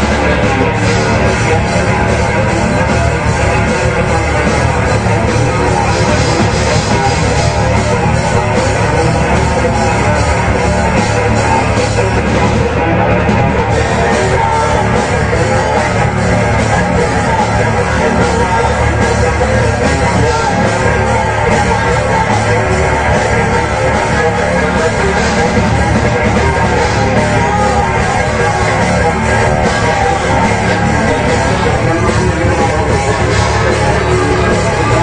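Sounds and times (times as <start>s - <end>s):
heavy metal band playing live: 0.0s - 35.0s.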